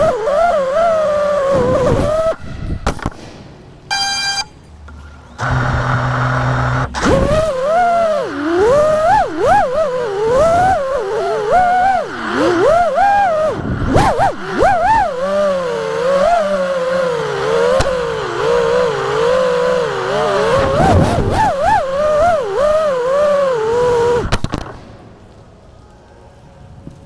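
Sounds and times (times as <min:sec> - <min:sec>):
quadcopter motors droning: 0:00.0 - 0:02.9, 0:03.9 - 0:24.4.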